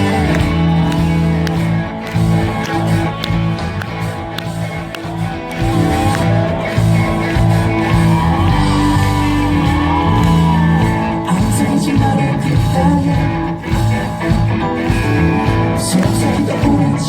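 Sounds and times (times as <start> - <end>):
gliding lead guitar line: 0.0 - 17.0
live pop-rock band: 0.0 - 17.0.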